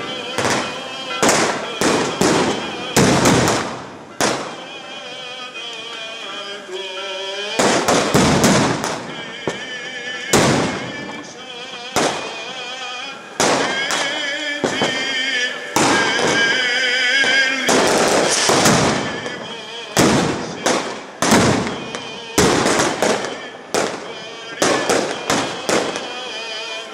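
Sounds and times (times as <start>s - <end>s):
crowd voices: 0.0s - 26.9s
firecrackers banging: 0.0s - 26.9s.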